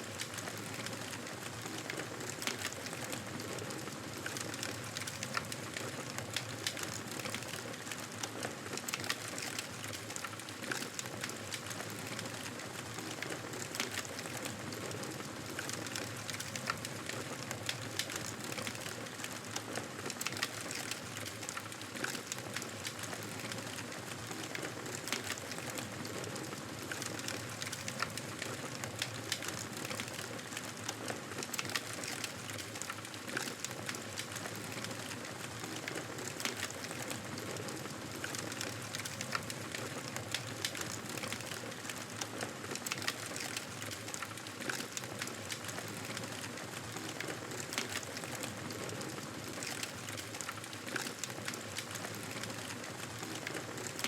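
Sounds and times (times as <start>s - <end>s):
campfire crackling and popping: 0.1s - 54.0s.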